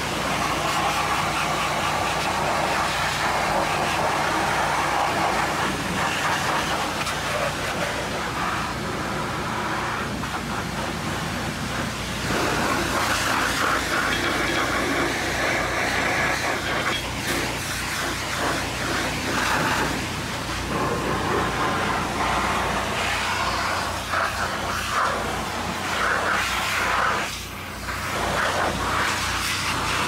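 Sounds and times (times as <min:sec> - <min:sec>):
pressure washer spraying: 0:00.0 - 0:30.0.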